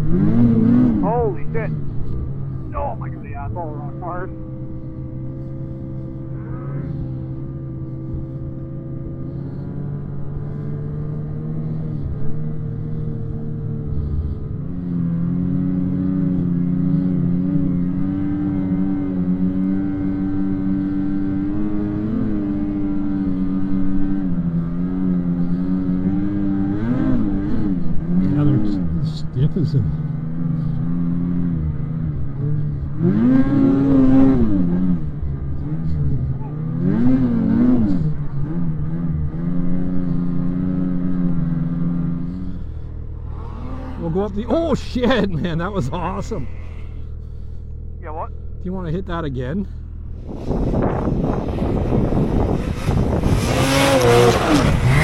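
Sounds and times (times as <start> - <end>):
snowmobile engine running: 0.0 - 8.7, 11.3 - 31.1, 32.3 - 55.0.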